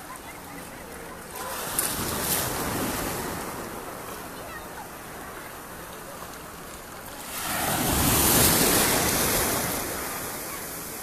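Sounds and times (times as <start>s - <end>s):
surf washing over shallows: 0.0s - 11.0s.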